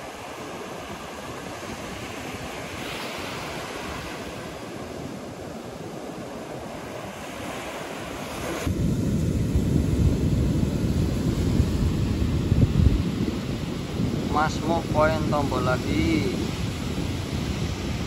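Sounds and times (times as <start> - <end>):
ocean surf washing: 0.0 - 18.0
wind buffeting microphone: 0.0 - 18.0.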